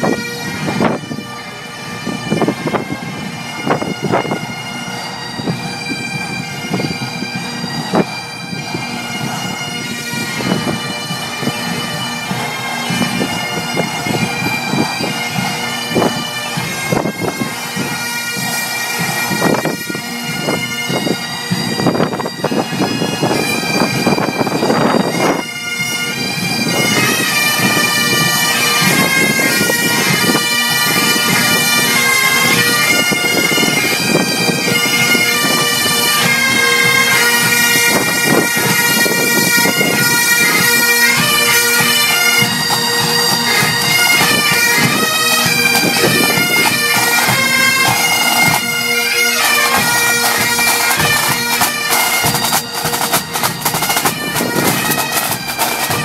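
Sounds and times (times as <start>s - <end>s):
pipe band bagpipes playing: 0.0s - 56.0s.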